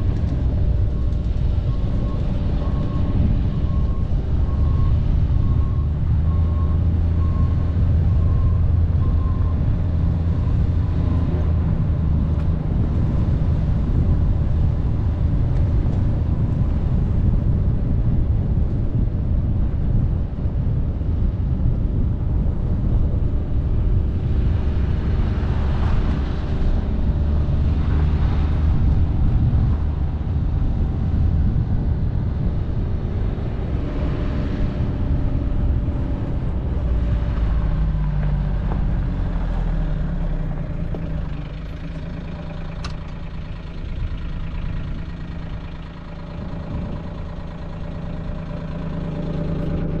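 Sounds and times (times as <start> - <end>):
low rumble over dirt: 0.0 - 50.0
vehicle engine hum: 0.0 - 50.0.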